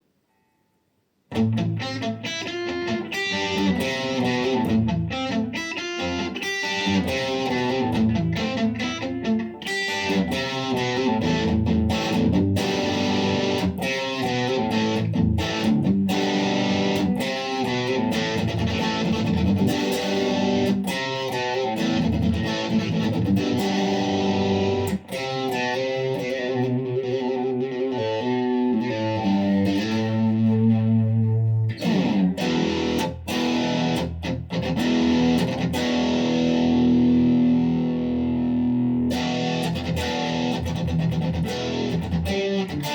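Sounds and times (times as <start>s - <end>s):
distorted electric guitar: 1.3s - 42.9s.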